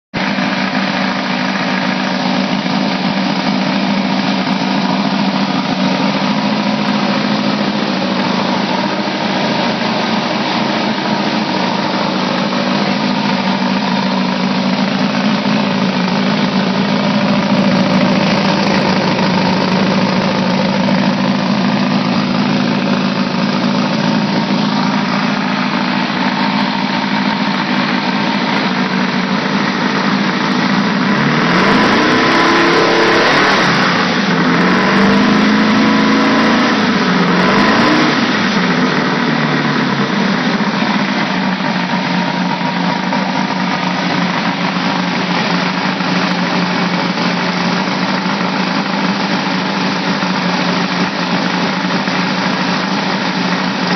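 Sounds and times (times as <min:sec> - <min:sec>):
car engine idling: 0:00.1 - 0:53.9.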